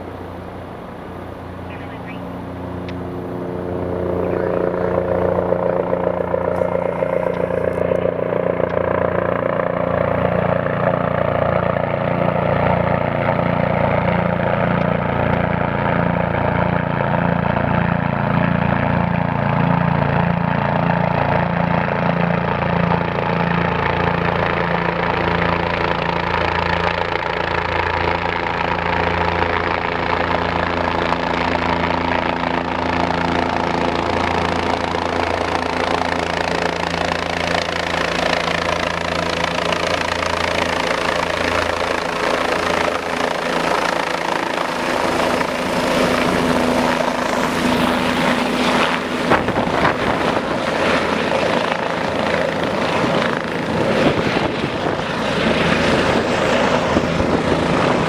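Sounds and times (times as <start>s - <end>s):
helicopter rotor beating: 0.0s - 58.0s.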